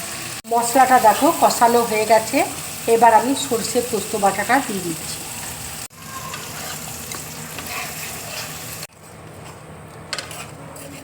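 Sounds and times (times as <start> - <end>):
spice paste sizzling in oil: 0.0 - 8.9.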